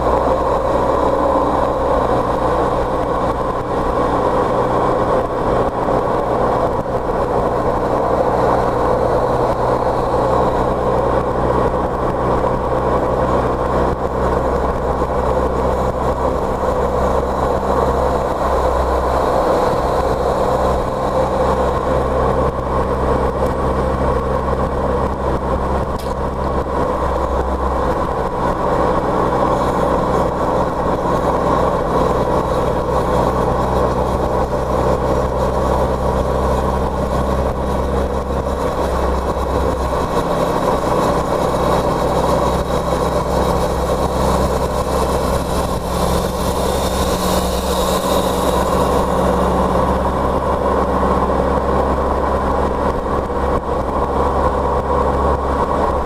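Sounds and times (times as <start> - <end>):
car engine running: 0.0 - 56.0
road noise: 0.0 - 56.0.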